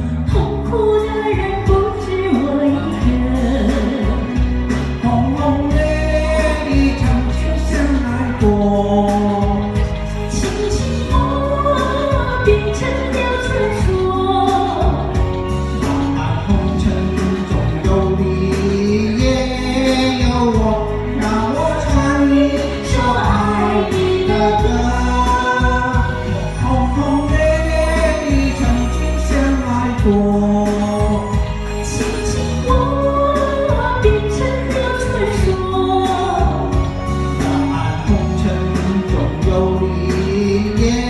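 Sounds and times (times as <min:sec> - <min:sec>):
karaoke backing track: 0:00.0 - 0:41.0
woman and man singing duet: 0:00.0 - 0:41.0.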